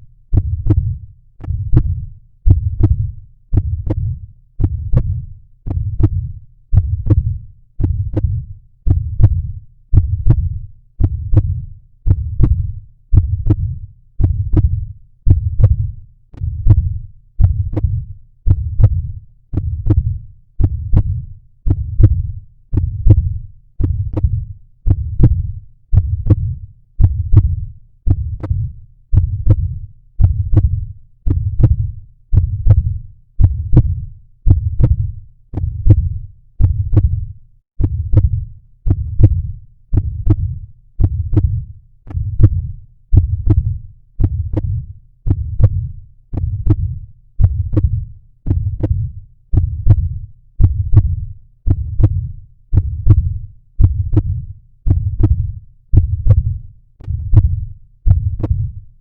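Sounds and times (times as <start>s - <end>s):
heartbeat thumps: 0.0s - 58.9s.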